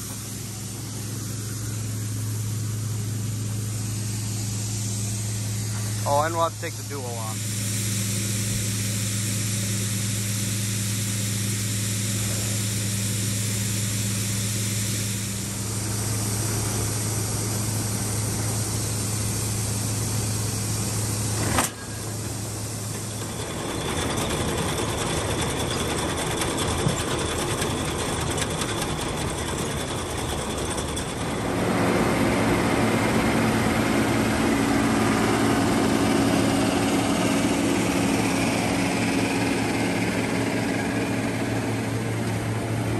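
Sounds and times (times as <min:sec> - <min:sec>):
tractor running forage chopper: 0:00.0 - 0:42.9
truck engine humming: 0:00.0 - 0:42.9.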